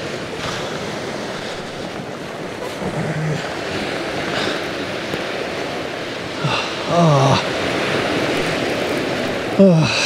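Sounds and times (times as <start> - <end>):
surf washing onto beach: 0.0 - 10.0.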